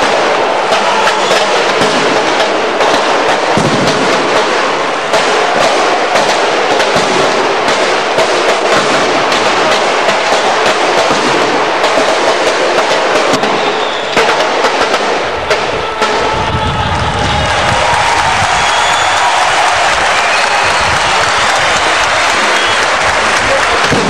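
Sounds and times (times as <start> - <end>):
firecrackers crackling: 0.0 - 24.0
stadium crowd noise: 0.0 - 24.0.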